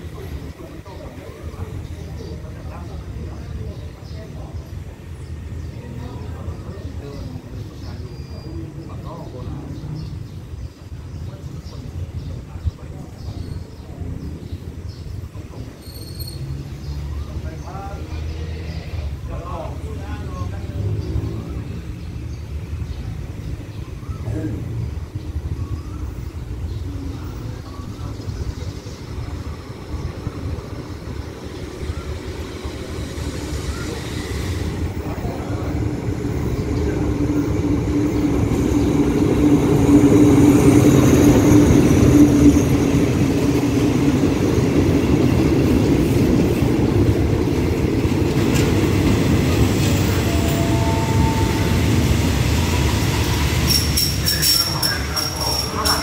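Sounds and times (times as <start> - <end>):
diesel locomotive engine drone: 0.0 - 56.0
train coaches rumbling past: 0.0 - 56.0.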